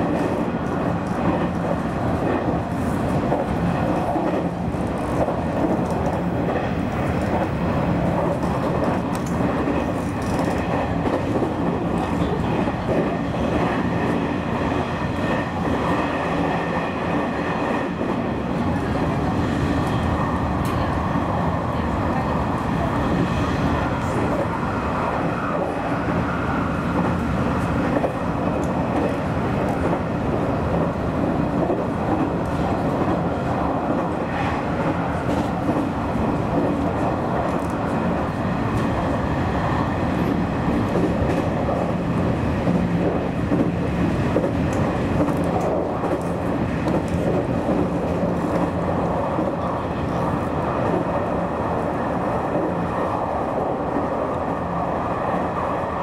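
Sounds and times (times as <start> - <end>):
train motors and wheels rumbling: 0.0 - 56.0.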